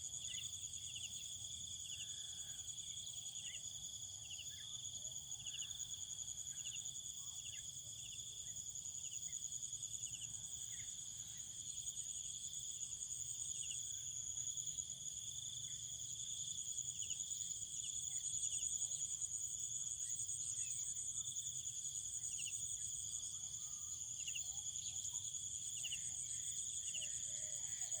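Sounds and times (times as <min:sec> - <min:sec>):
insect chorus trilling: 0:00.1 - 0:28.0.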